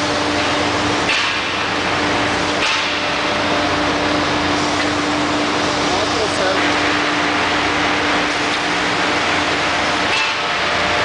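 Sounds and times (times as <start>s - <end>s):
printing machine humming: 0.0s - 11.0s.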